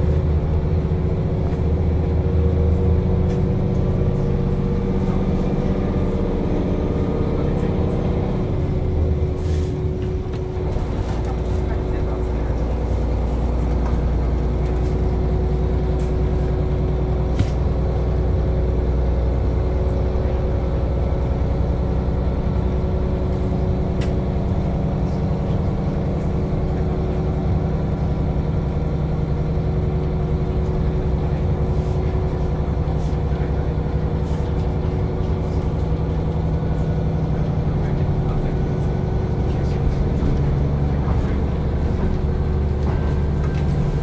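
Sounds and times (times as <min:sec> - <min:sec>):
railcar diesel engine droning: 0:00.0 - 0:44.0.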